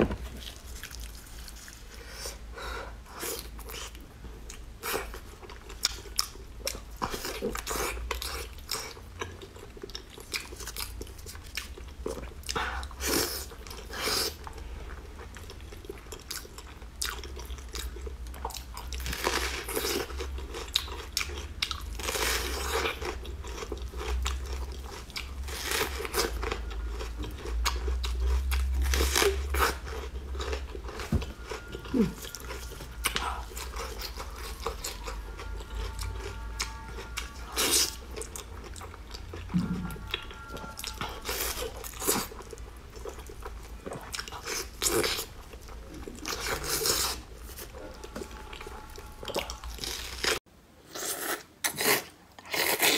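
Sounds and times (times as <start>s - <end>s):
chewing soft food: 3.1s - 52.9s.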